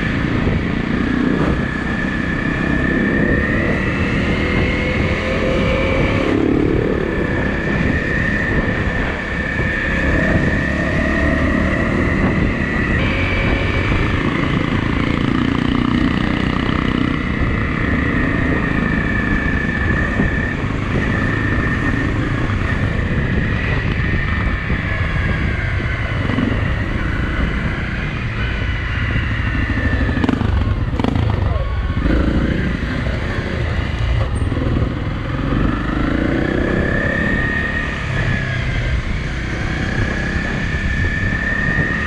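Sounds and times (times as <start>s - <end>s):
high whine: 0.0s - 42.0s
motorcycle engine running: 0.0s - 42.0s.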